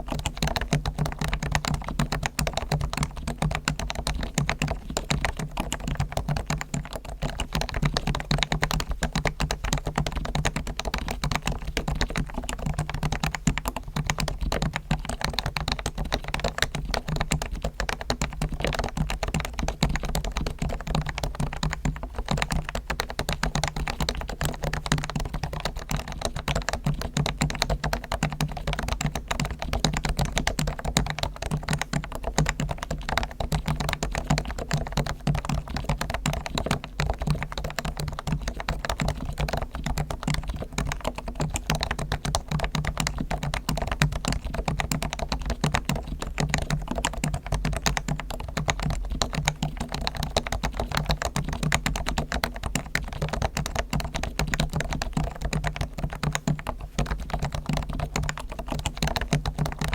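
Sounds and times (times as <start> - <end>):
fast typing on keyboard: 0.0 - 59.9.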